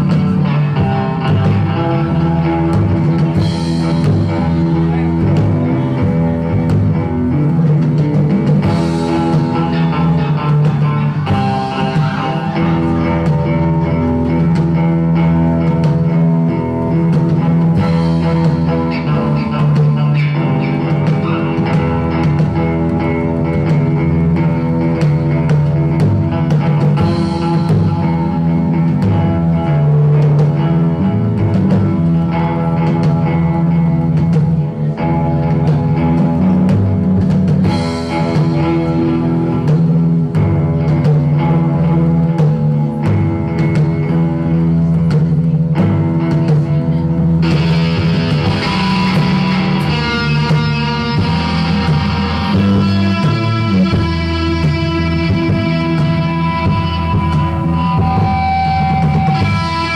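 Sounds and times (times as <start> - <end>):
drum kit with cymbals: 0.0 - 59.9
electric guitar chords: 0.0 - 59.9.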